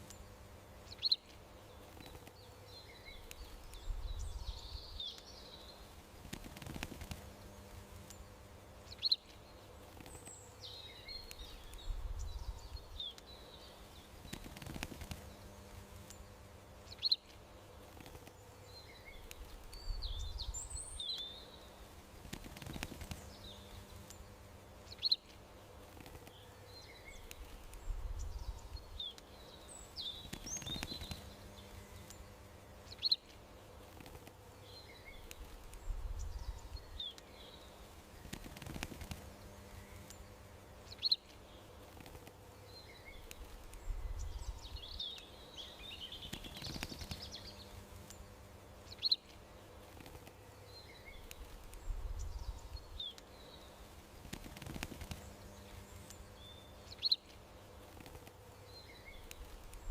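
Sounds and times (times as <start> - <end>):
faint steady hum: 0.0 - 59.9
small songbirds chirping: 0.0 - 59.9.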